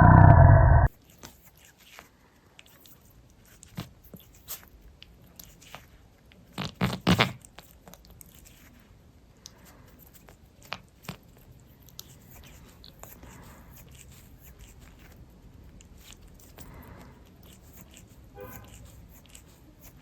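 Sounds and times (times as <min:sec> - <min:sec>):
cat licking fur: 0:01.1 - 0:20.0.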